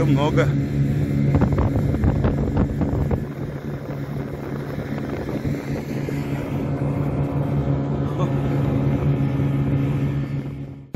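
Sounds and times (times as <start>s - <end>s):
snowmobile engine running: 0.0s - 10.9s
wind buffeting microphone: 0.0s - 10.9s.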